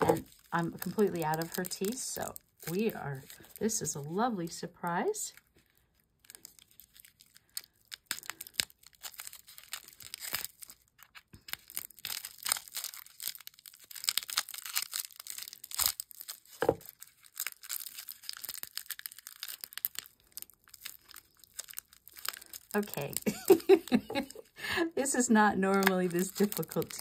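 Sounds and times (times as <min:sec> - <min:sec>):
plastic wrapping crinkling: 0:00.0 - 0:27.0.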